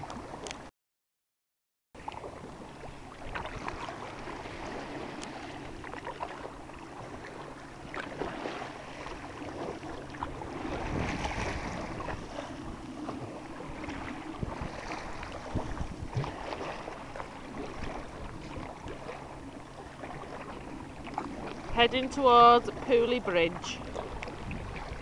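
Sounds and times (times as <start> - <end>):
paddle strokes in water: 0.0 - 0.7, 2.0 - 25.0
water splashing: 2.0 - 25.0
wind on microphone: 2.2 - 25.0.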